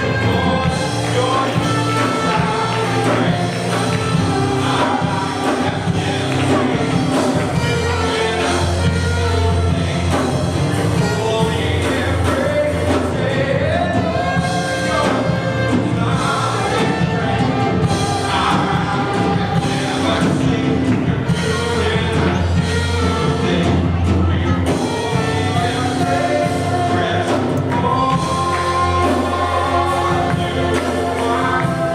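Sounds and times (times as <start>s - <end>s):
live band playing: 0.0s - 31.9s
person singing worship song: 0.0s - 31.9s
steady bass line: 0.0s - 31.9s.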